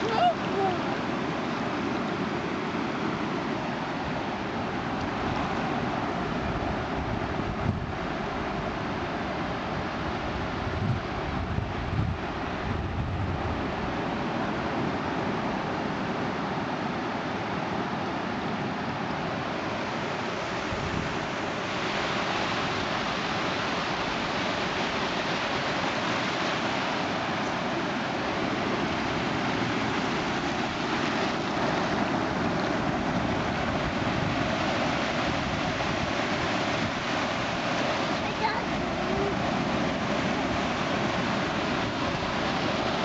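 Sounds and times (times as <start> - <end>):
ocean waves washing in: 0.0 - 43.0.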